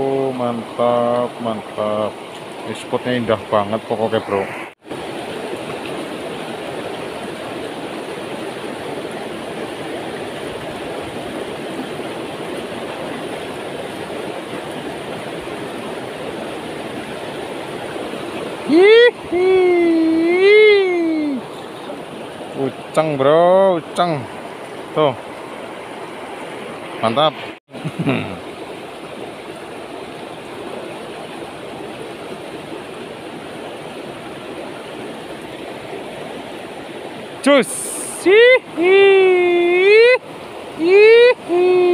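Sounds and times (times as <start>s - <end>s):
river rushing over stones: 0.0s - 41.9s.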